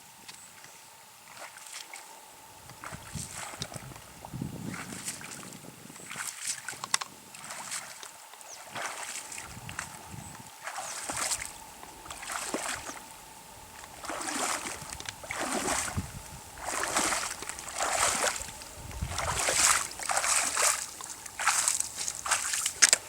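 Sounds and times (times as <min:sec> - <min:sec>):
water sloshing and splashing: 0:00.6 - 0:23.0.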